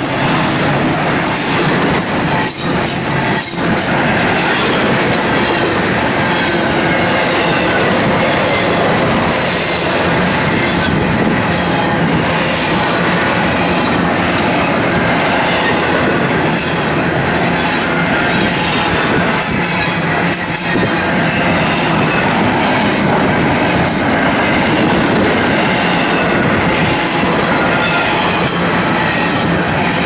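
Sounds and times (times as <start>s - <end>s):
high-pitched wheel squeal: 0.0s - 30.0s
steel wheels on rails: 0.0s - 30.0s.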